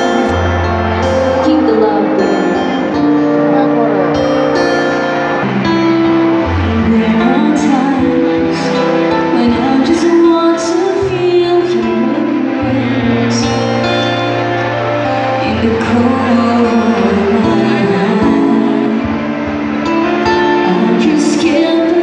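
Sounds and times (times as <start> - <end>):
woman singing into microphone: 0.0 - 3.3, 5.4 - 14.4, 15.0 - 22.0
acoustic guitar: 0.0 - 22.0.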